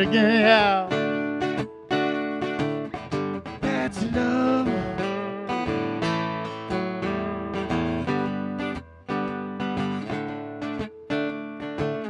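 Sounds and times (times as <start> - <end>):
acoustic string instrument strummed: 0.0 - 12.0.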